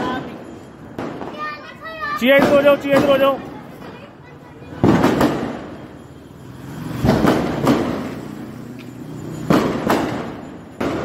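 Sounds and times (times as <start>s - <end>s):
firecrackers banging: 0.0s - 11.0s.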